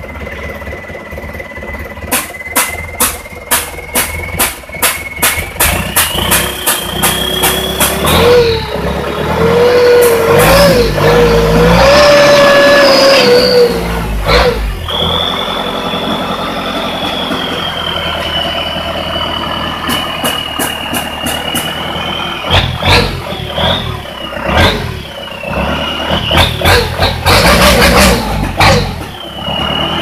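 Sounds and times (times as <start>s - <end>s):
diesel engine revving and idling: 0.0s - 30.0s
turbo whistle: 0.1s - 8.8s, 9.4s - 30.0s.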